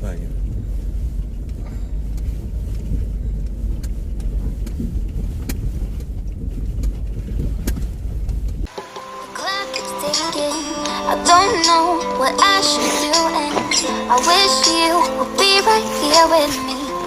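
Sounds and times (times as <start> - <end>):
car cabin road rumble: 0.0 - 8.7, 9.4 - 17.0.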